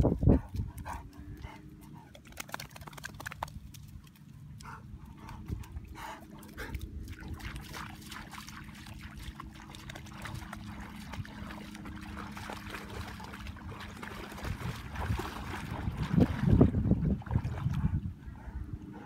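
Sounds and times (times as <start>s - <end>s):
dog splashing through water: 2.0s - 17.8s.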